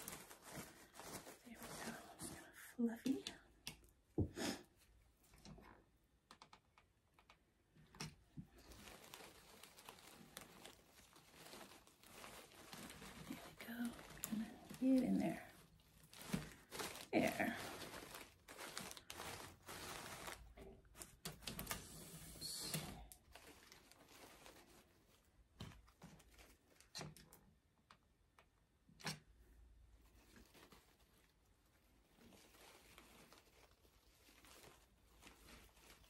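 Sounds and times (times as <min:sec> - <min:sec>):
artificial flowers rustling: 0:00.0 - 0:06.0, 0:07.8 - 0:27.3, 0:29.3 - 0:36.0.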